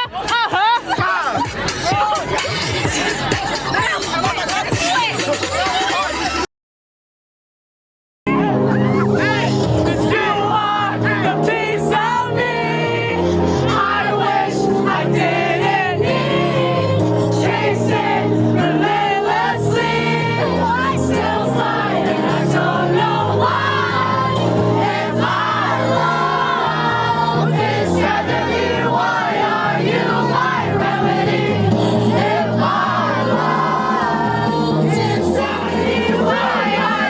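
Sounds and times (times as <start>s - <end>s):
song with vocals and bass: 0.9s - 6.4s, 8.3s - 37.0s.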